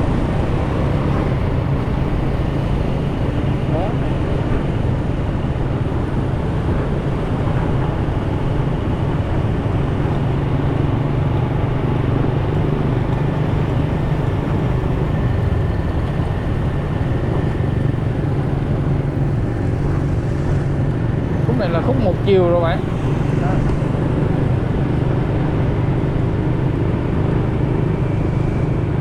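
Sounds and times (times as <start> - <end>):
motorcycle engine hum: 0.0 - 29.0
wind and road noise: 0.0 - 29.0.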